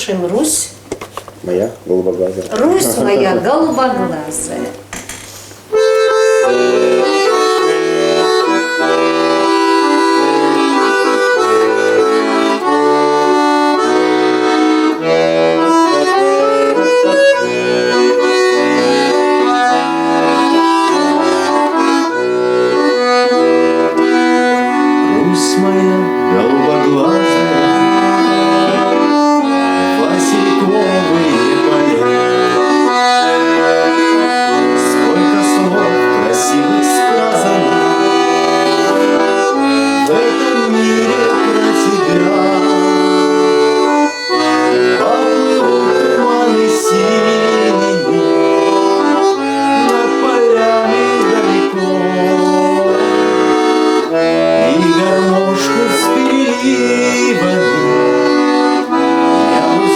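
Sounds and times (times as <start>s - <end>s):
accordion folk melody: 0.0s - 59.9s.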